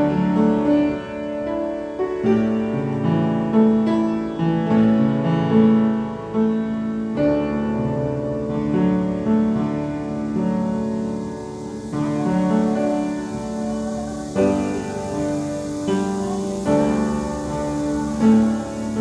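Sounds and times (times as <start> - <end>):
slow piano notes and chords: 0.0 - 19.0.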